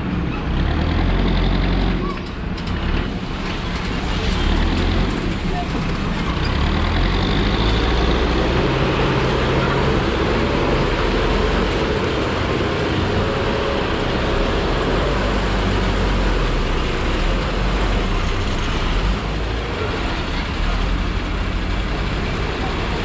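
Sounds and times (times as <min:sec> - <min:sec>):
road noise: 0:00.0 - 0:23.0
vehicle engines running: 0:00.0 - 0:23.0.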